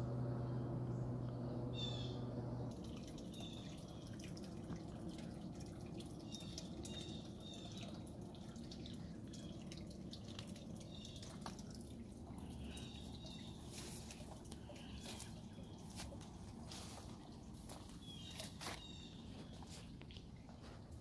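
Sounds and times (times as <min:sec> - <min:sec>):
low steady hum: 0:00.0 - 0:21.0
birds calling: 0:00.4 - 0:04.9, 0:06.0 - 0:20.2
dripping water: 0:02.5 - 0:21.0.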